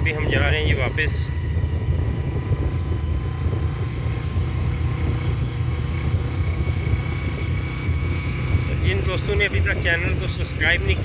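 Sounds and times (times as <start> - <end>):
motorcycle engine drone: 0.0 - 11.0
wind buffeting microphone: 0.0 - 11.0.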